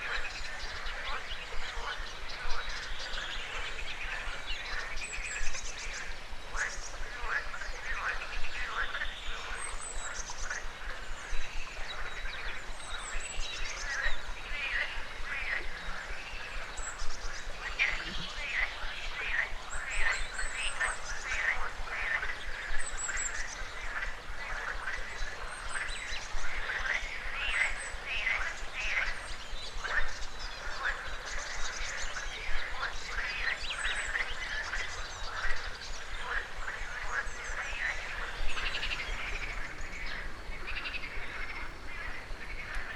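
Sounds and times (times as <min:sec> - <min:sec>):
frogs croaking: 0:00.0 - 0:42.9.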